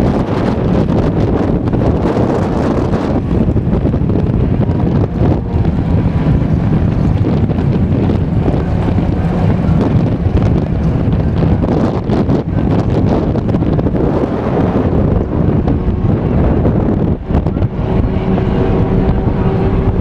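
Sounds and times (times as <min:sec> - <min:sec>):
race cars on dirt track: 0:00.0 - 0:20.0
strong wind buffeting microphone: 0:00.0 - 0:20.0.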